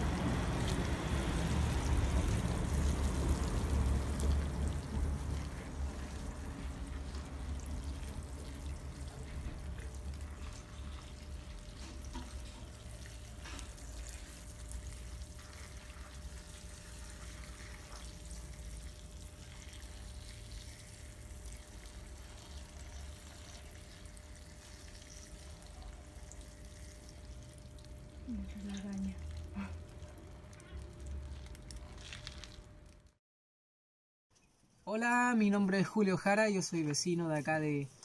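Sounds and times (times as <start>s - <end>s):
water sprinkling from watering can: 0.0s - 33.1s.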